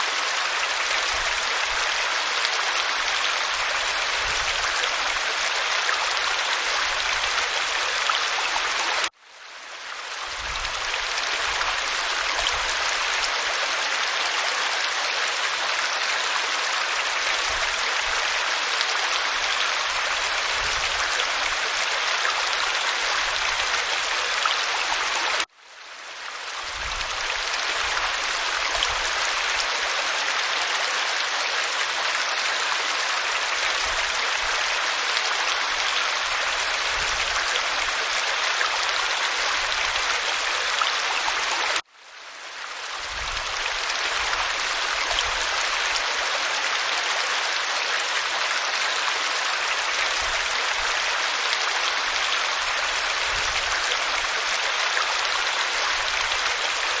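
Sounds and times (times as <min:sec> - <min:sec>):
waterfall splashing over rock: 0:00.0 - 0:09.2, 0:10.1 - 0:25.5, 0:26.5 - 0:41.9, 0:42.8 - 0:57.0.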